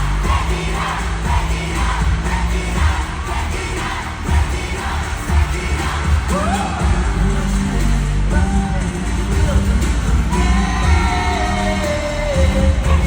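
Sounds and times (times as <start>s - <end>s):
heavy bass beat: 0.0s - 13.0s
pop song over sound system: 0.0s - 13.0s.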